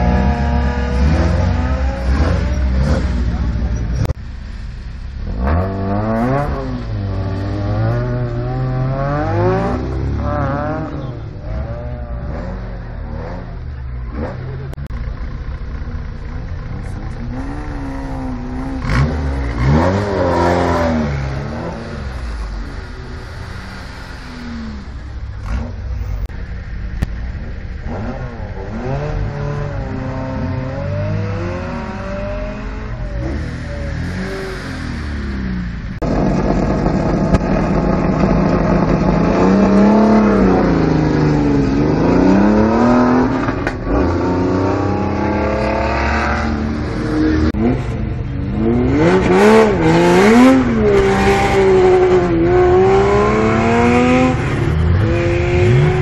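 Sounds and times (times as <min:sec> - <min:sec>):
rally car engine revving: 0:00.0 - 0:26.4, 0:27.0 - 0:56.0
engines idling: 0:00.0 - 0:56.0.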